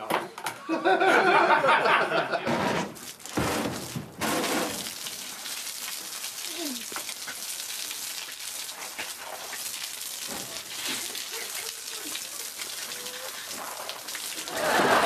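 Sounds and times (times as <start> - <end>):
water jets spraying: 2.1 - 15.0.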